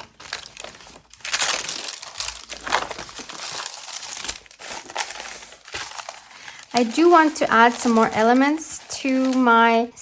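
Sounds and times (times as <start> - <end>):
paper rustling and crinkling: 0.0 - 9.9.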